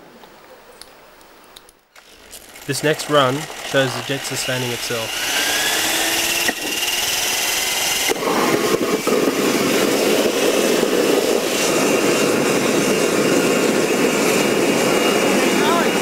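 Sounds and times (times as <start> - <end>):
high-pitched turbine whine: 2.1 - 16.0
jet engine roaring: 2.5 - 16.0.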